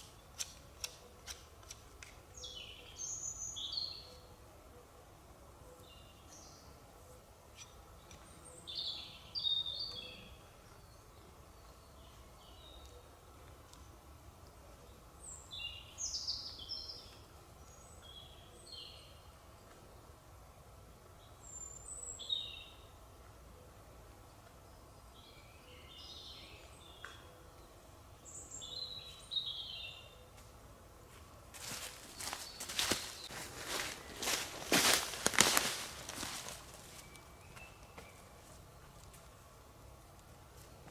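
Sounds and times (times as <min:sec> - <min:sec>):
songbird chirping: 0:00.0 - 0:20.2, 0:21.0 - 0:40.9
faint background noise: 0:00.0 - 0:40.9
faint forest background: 0:00.0 - 0:40.9.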